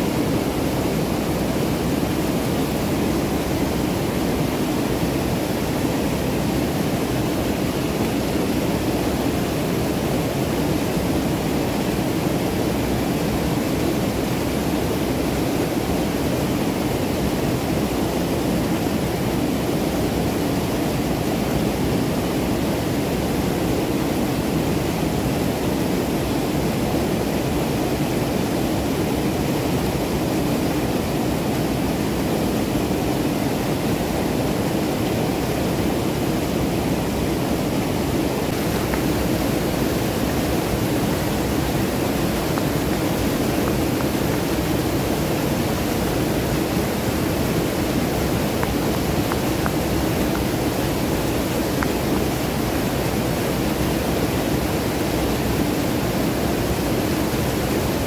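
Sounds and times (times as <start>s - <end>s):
waterfall rushing water: 0.0s - 58.0s.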